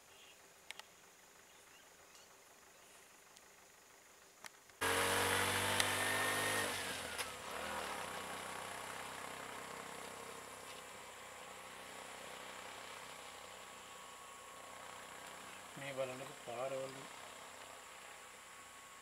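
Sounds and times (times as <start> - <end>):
faint steady hum: 0.0 - 19.0
small engine idling: 0.2 - 19.0.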